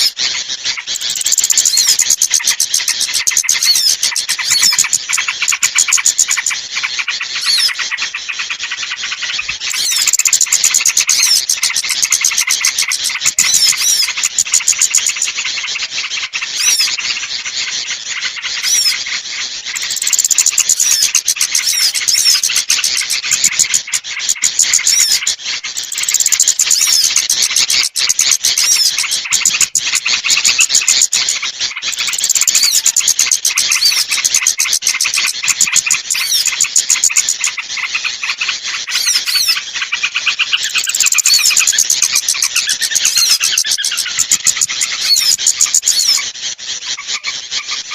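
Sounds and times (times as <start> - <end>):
songbirds chirping and twittering: 0.0 - 47.9.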